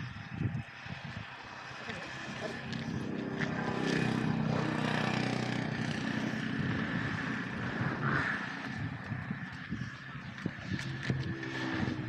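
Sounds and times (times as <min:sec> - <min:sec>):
engine humming: 0:01.2 - 0:12.0.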